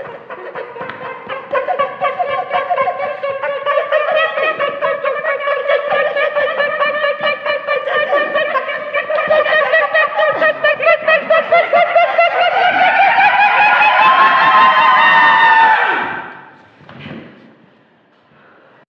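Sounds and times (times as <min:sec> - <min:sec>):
group warbling tones: 0:00.0 - 0:15.2.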